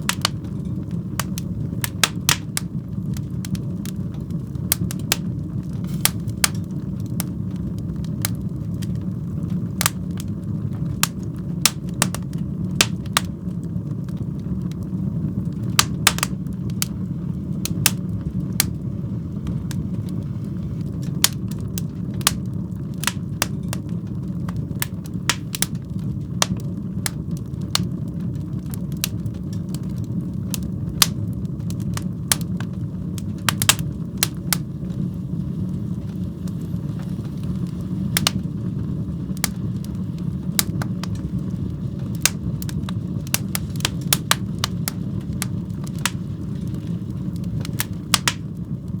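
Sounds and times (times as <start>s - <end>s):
fire crackling and popping: 0.0s - 49.0s
low rumble of flames: 0.0s - 49.0s.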